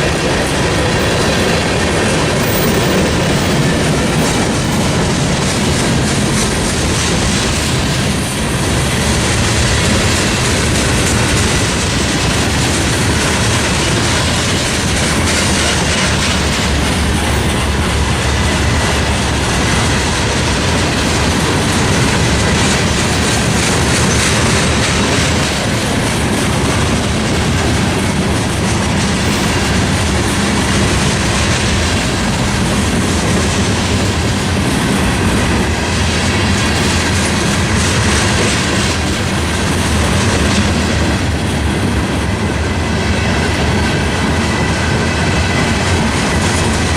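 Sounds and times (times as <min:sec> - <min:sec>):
train cars rumbling past: 0:00.0 - 0:46.9
wheels clicking on track: 0:00.0 - 0:46.9.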